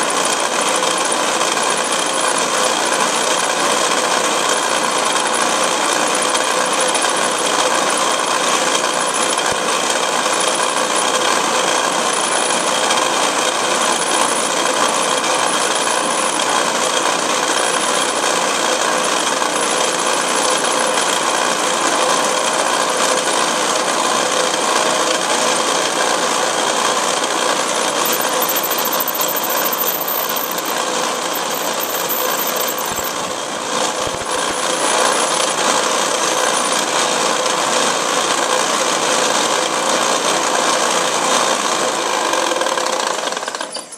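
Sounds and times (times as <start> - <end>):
lathe drilling into metal rod: 0.0 - 43.9.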